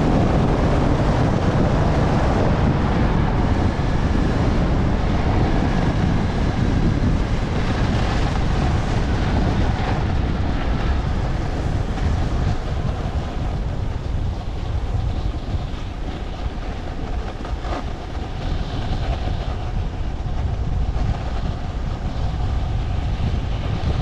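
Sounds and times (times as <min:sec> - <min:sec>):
skis scraping over snow: 0:00.0 - 0:24.0
wind buffeting microphone: 0:00.0 - 0:24.0.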